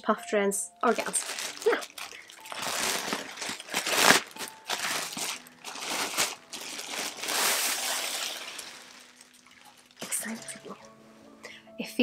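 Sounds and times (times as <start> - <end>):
plastic bag crinkling: 0.8 - 10.9.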